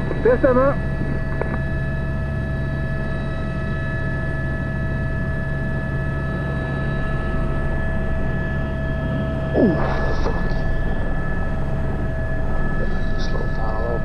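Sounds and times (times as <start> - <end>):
helicopter turbine and rotor: 0.0 - 14.0.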